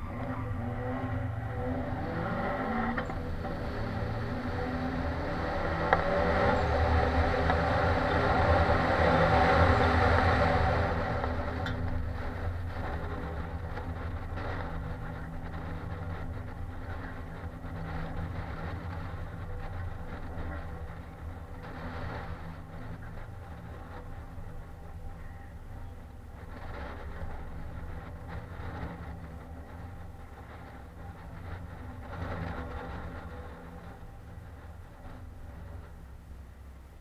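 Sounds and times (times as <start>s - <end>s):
car engine and exhaust: 0.0s - 37.0s.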